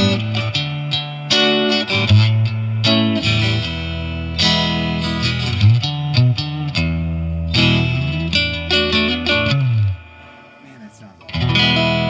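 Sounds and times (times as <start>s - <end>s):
clean electric guitar riffs: 0.0s - 12.0s.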